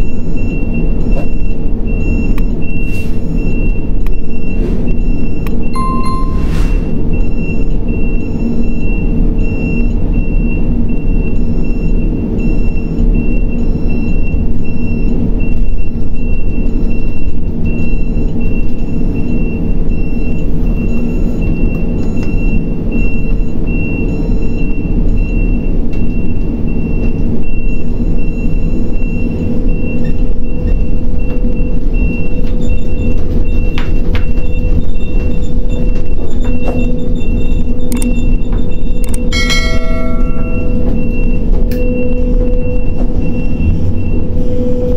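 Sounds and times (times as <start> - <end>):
crane machinery rumbling: 0.0 - 44.9
high-pitched warning beeps: 0.0 - 44.9.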